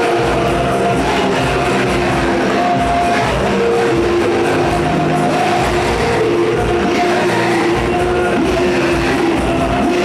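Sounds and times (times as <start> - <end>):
church worship music: 0.0 - 10.0
steady bass beat: 0.0 - 10.0
voices singing: 0.0 - 10.0.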